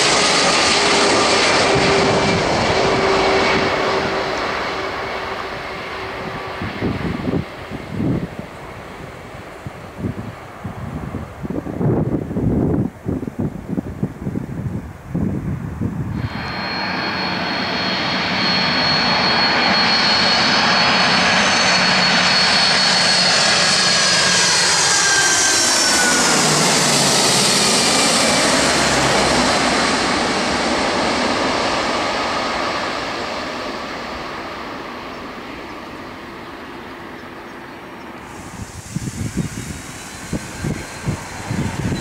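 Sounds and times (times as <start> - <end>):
jet airliner passing overhead: 0.0 - 42.0.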